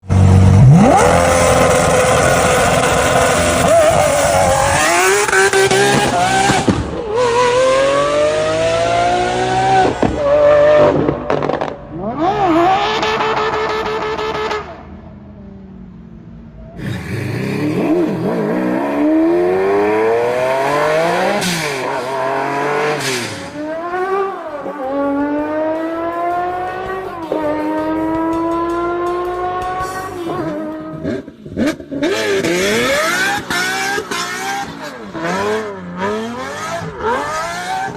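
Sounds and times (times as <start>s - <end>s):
car engines revving and accelerating: 0.0s - 37.9s.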